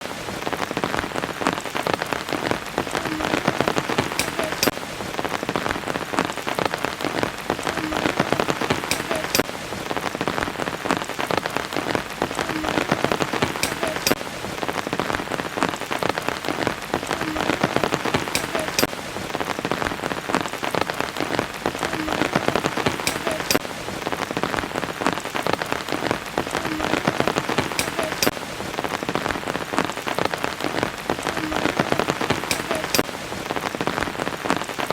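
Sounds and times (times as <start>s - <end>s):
sharp water drips: 0.0s - 34.9s
steady rain falling: 0.0s - 34.9s.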